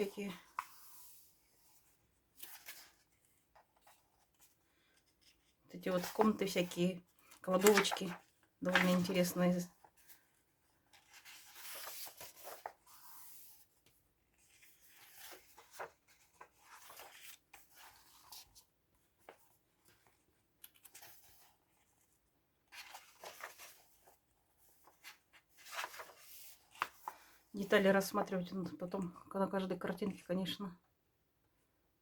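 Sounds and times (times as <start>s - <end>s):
paper pages turning and rustling: 0.4s - 27.8s.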